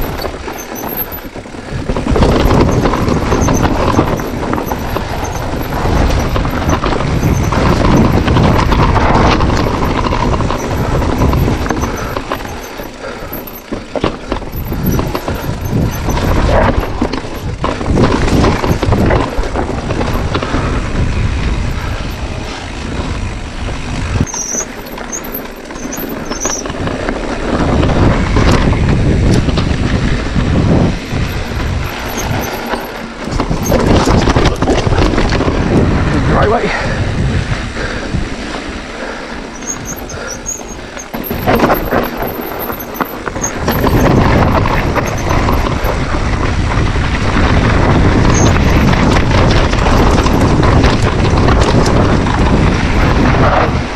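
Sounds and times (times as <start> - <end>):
tyres crunching over rocks and gravel: 0.0 - 36.2, 38.5 - 53.9
bike knocking and rattling: 0.0 - 53.9
wind noise on microphone: 0.0 - 53.9.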